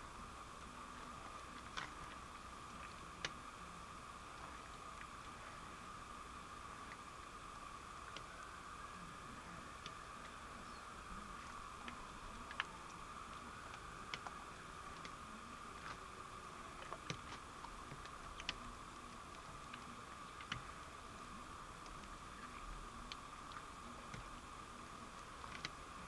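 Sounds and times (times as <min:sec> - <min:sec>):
faint hiss: 0:00.0 - 0:26.0.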